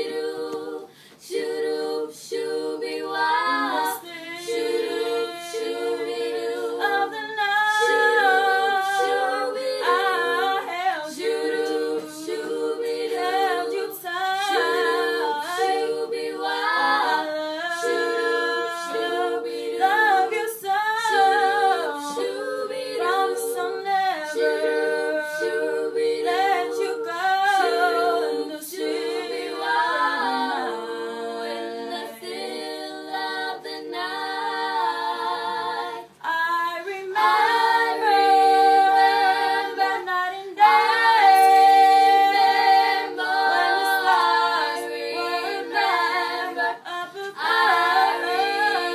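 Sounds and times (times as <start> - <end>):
girls singing unaccompanied: 0.0 - 48.9.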